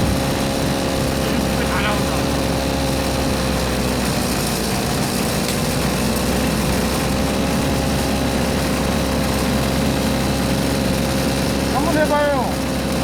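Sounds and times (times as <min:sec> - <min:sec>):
brush cutter engine running: 0:00.0 - 0:13.0.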